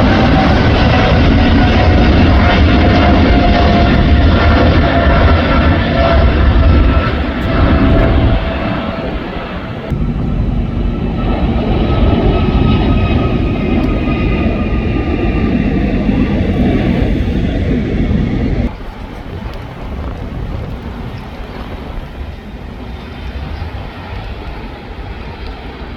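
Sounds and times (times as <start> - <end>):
jet airliner engines rumbling: 0.0 - 25.9.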